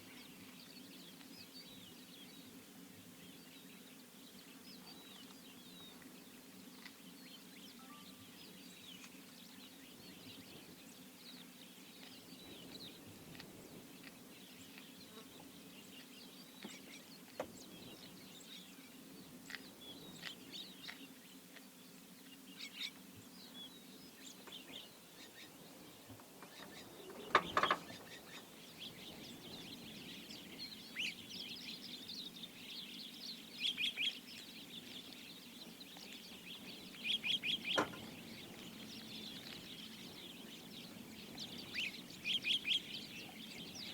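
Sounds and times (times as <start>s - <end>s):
wild birds chirping: 0.0s - 43.9s.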